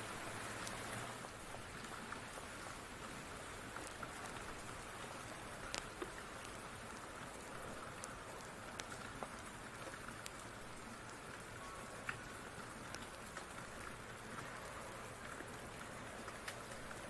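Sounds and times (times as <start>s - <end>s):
steady rain falling: 0.0s - 17.0s
wood fire crackling and popping: 0.6s - 17.0s.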